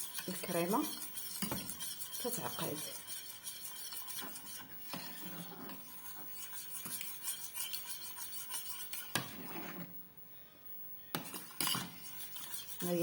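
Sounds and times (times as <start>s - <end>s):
spoon stirring and scraping pot: 0.0s - 9.9s, 11.1s - 13.0s.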